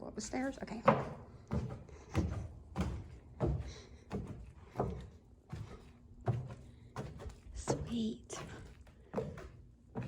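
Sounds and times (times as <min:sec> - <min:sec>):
footsteps climbing stairs: 0:00.4 - 0:10.0.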